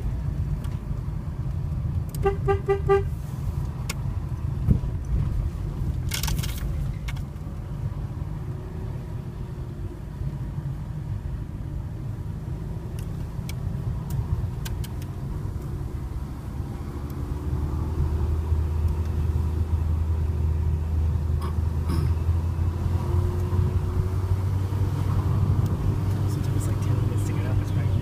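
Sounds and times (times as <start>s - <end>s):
car engine and tyres rumbling: 0.0s - 28.0s.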